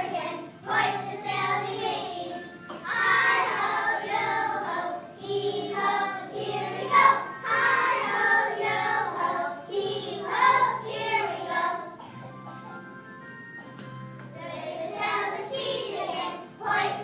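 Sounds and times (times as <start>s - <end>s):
children singing: 0.0s - 12.8s, 14.4s - 17.0s
musical accompaniment: 0.0s - 17.0s.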